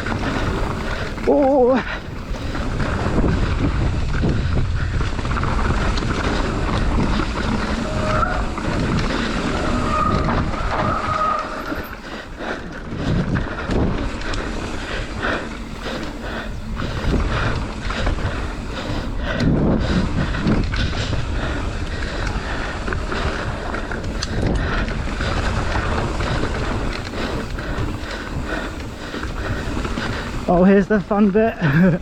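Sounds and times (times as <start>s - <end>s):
bike knocking and rattling: 0.0s - 32.0s
bike tyres rumbling over rock: 0.0s - 32.0s
wind noise on microphone: 0.0s - 32.0s.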